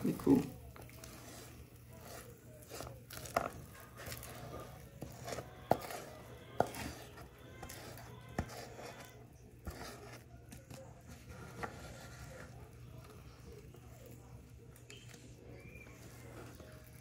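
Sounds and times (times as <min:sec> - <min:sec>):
spatula scraping sticky sweet: 0:00.0 - 0:17.0.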